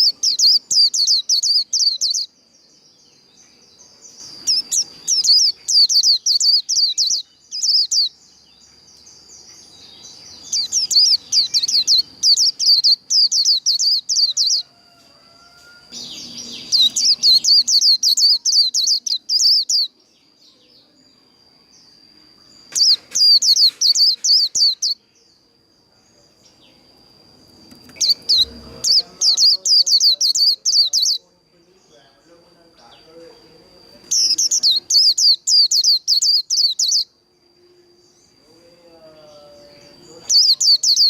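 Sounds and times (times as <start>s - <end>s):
bird twittering song: 0.0s - 37.2s, 37.8s - 41.0s
thin steady high tone: 0.0s - 41.0s.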